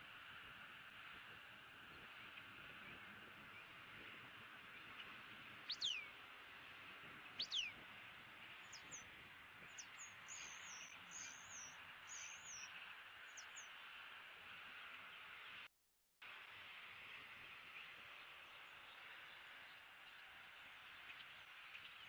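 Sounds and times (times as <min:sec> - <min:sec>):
birds chirping and warbling: 0:01.9 - 0:15.7, 0:17.7 - 0:22.0.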